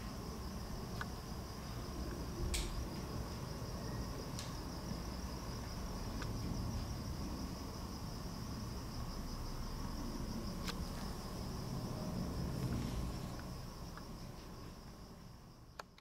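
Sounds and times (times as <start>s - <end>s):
low background rumble: 0.0s - 15.8s
crickets chirping: 0.0s - 16.0s.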